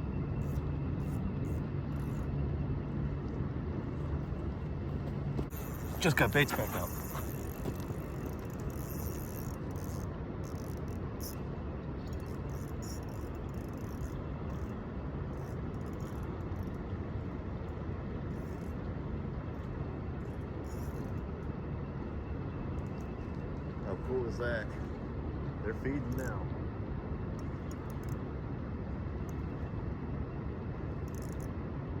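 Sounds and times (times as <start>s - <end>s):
outdoor background rumble: 0.0s - 32.0s.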